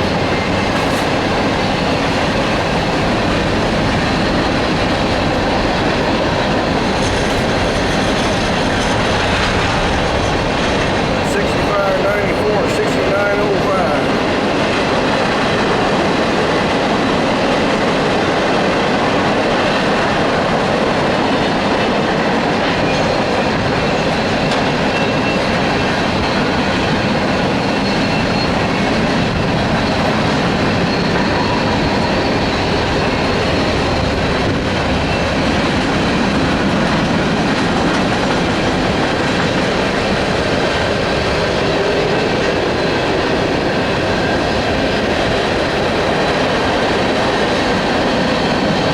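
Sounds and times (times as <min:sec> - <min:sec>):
freight train rolling past: 0:00.0 - 0:48.9.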